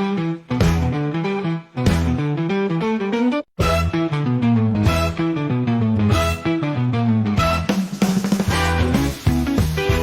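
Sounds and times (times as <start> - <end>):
upbeat guitar and bass music: 0.0 - 10.0.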